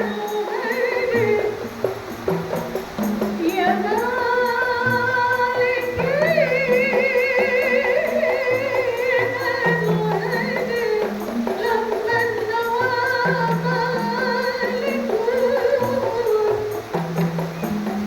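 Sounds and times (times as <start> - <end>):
frame drums beating: 0.0 - 18.0
person singing with vibrato: 0.0 - 18.0.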